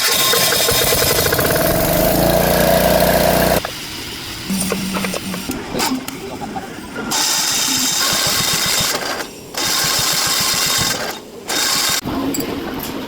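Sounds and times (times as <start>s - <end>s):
machine running with rattle and hiss: 0.0s - 13.0s.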